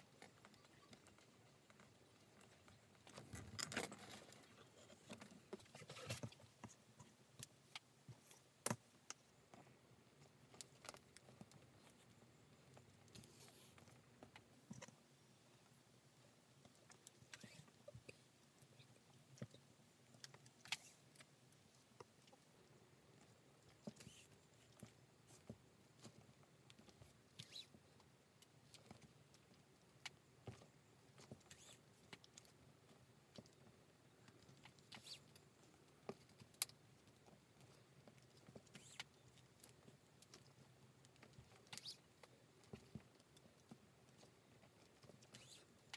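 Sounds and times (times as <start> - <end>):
leather strap and thread handled: 0.1 - 15.1, 16.5 - 45.9.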